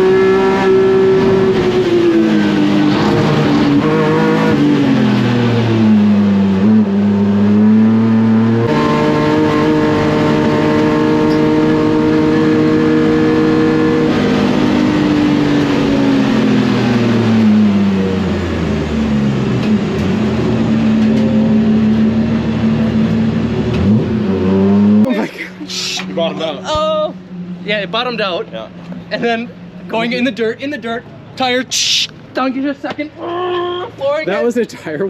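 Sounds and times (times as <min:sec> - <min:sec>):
race car engine running hard: 0:00.0 - 0:32.3.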